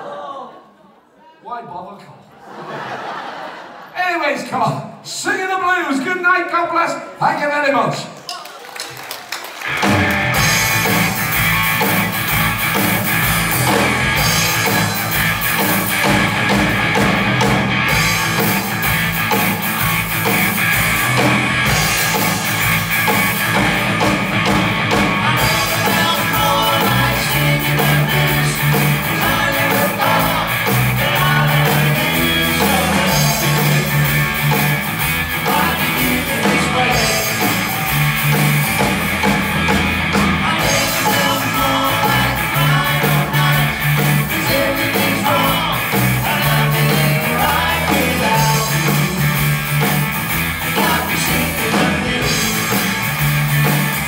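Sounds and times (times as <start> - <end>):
rock band playing: 9.0 - 54.0
bass line: 9.7 - 54.0.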